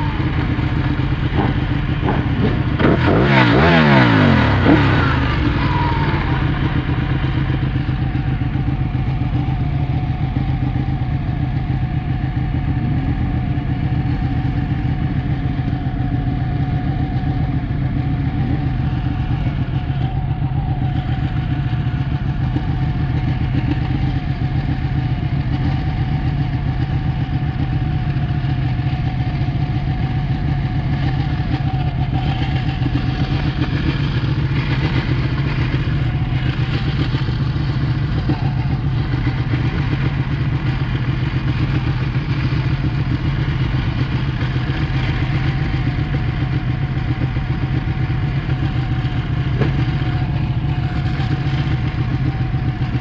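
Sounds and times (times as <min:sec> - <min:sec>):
motorcycle engine running steadily: 0:00.0 - 0:53.0.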